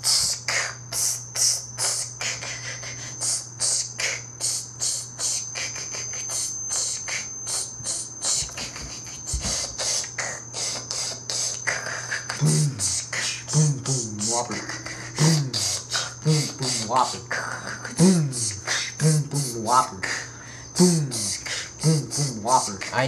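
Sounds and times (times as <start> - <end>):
beatboxing hi-hat hisses: 0.0 - 22.9
steady low hum: 0.0 - 23.0.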